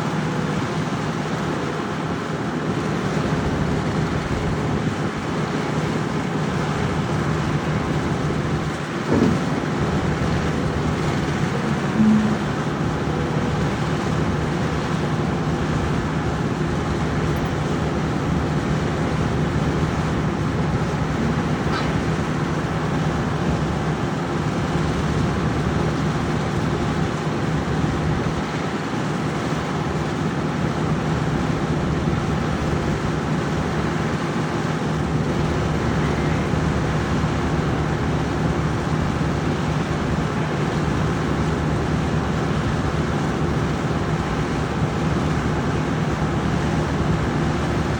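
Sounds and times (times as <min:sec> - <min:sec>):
farm machine engine droning: 0:01.5 - 0:47.9.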